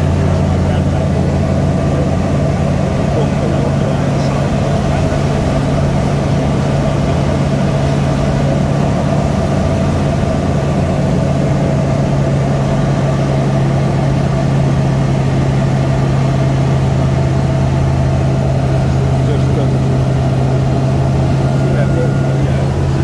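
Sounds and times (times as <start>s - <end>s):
light aircraft engine droning: 0.0s - 23.0s.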